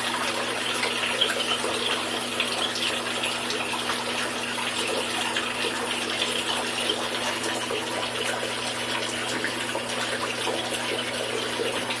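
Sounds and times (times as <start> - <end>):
water running from bathtub tap: 0.0 - 12.0.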